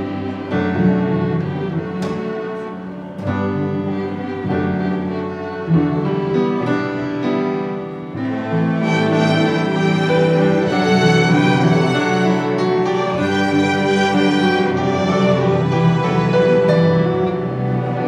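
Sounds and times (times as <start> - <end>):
bowed violins and violas: 0.0 - 18.0
piano chords: 0.0 - 18.0.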